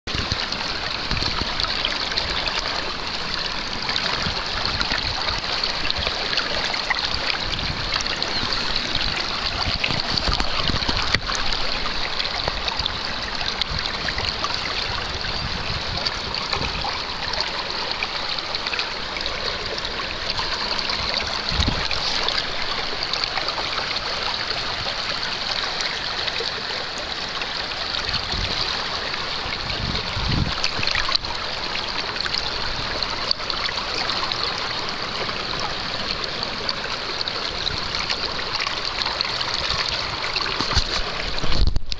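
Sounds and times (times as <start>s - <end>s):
river water trickling: 0.1s - 41.9s.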